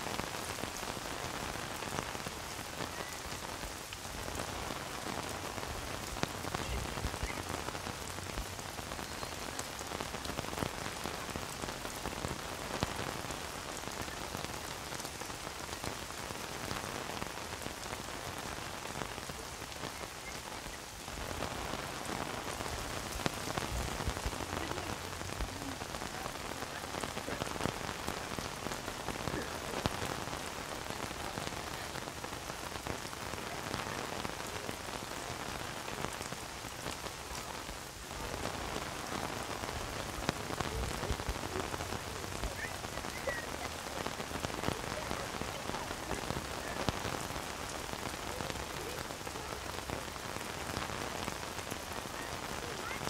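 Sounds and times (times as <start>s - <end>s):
rain hissing on wet paving: 0.0s - 53.0s
raindrops ticking on umbrella: 0.0s - 53.0s.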